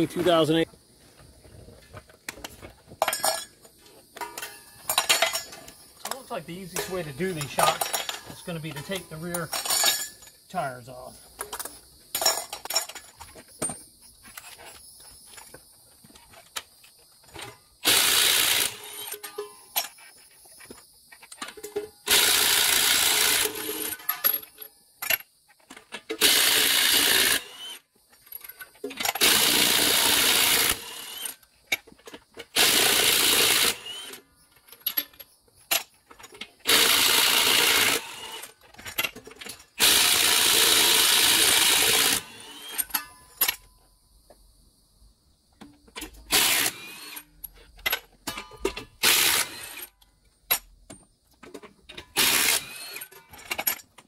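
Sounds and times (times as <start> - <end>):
clinks of tool and nuts: 2.0 - 17.7, 18.5 - 29.4, 30.2 - 40.6, 41.6 - 44.4, 45.5 - 54.0.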